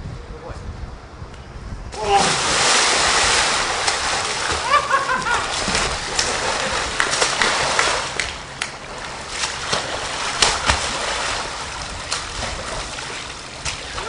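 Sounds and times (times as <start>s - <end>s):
water slaps and splashes: 1.9s - 14.0s
churned water rushing: 2.0s - 14.0s.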